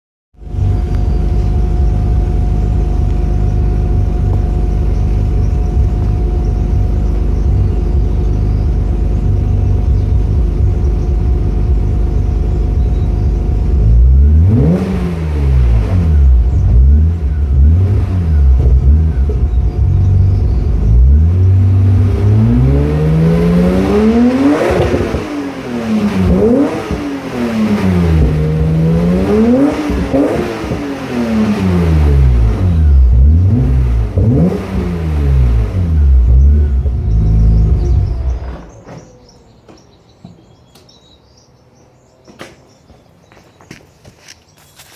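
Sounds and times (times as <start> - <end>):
car engine revving: 0.4 - 39.9.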